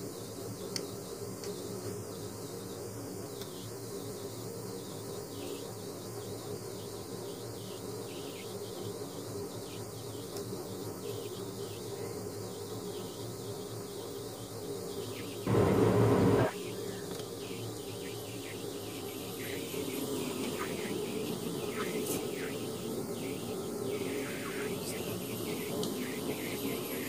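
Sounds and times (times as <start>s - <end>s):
low electrical buzzing hum: 0.0s - 27.0s.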